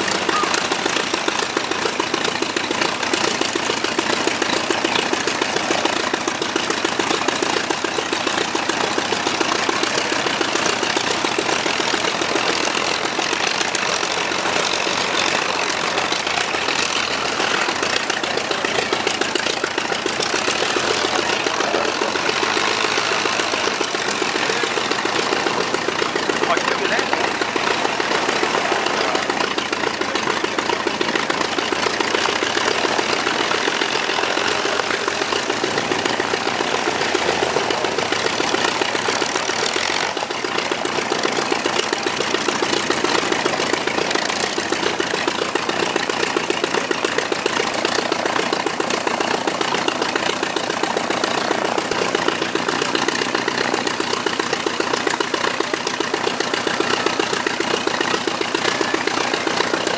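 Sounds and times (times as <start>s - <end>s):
biplane engine idling: 0.0s - 59.9s.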